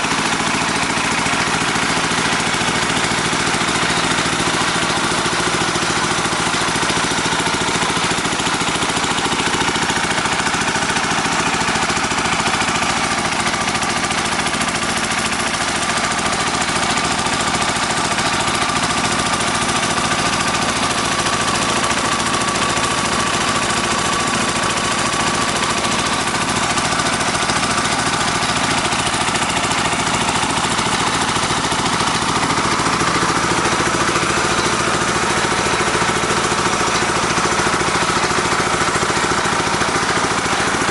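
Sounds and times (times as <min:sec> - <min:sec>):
drilling machine engine rattling: 0:00.0 - 0:40.9.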